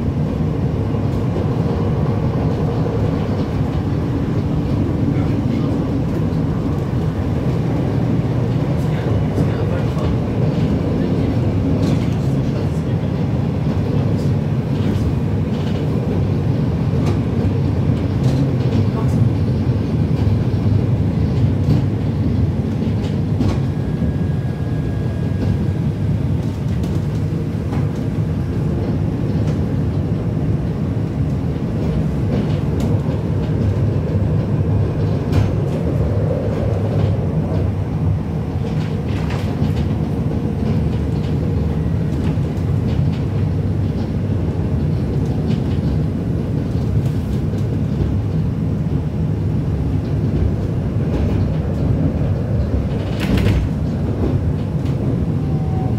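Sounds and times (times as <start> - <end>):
tram wheels rumbling: 0.0 - 55.9
sharp clicks from rails: 2.3 - 23.8, 26.4 - 55.3.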